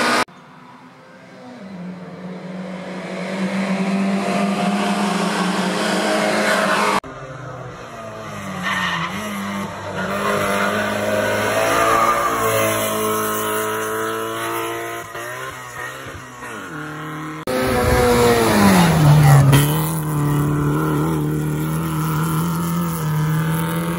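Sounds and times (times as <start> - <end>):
race car engine at high revs: 0.0 - 0.3, 1.4 - 23.9.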